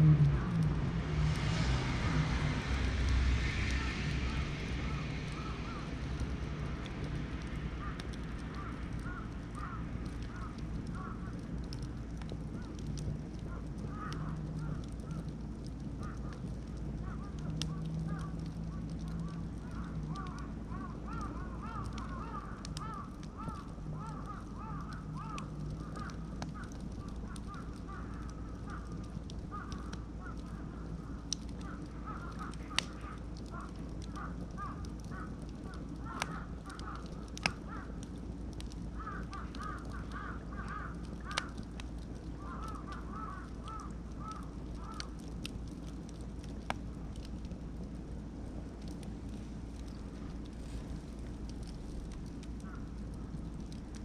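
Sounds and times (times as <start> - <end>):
bonfire crackling: 0.0 - 54.0.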